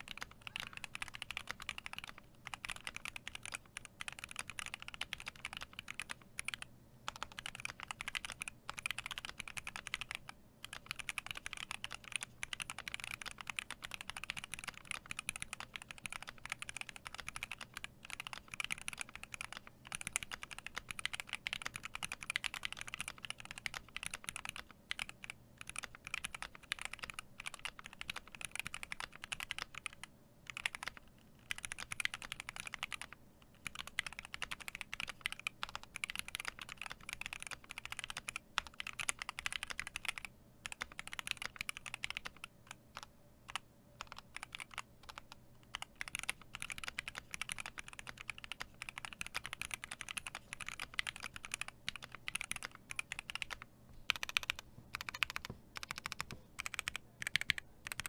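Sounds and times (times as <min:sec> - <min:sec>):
fast mechanical keyboard typing: 0:00.0 - 0:58.0.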